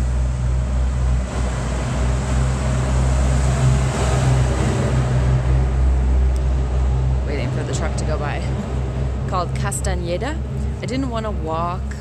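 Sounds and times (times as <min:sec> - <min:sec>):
truck driving past: 0:00.0 - 0:12.0.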